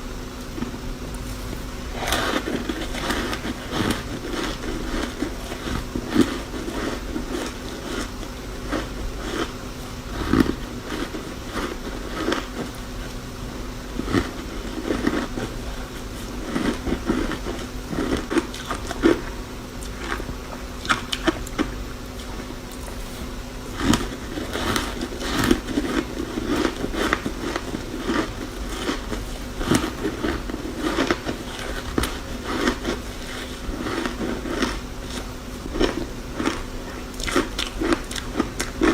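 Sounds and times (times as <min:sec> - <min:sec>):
chewing and crunching ice: 0:00.6 - 0:13.2, 0:13.8 - 0:38.9.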